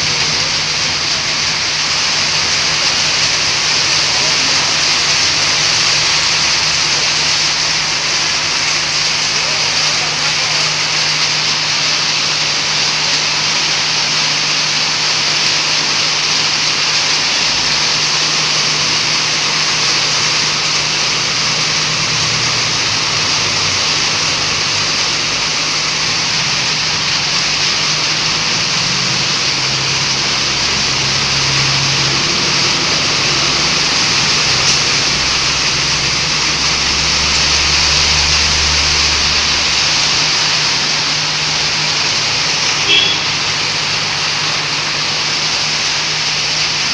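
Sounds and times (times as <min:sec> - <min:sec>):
heavy rain hissing: 0:00.0 - 0:46.9
vehicle engine hum: 0:00.0 - 0:46.9.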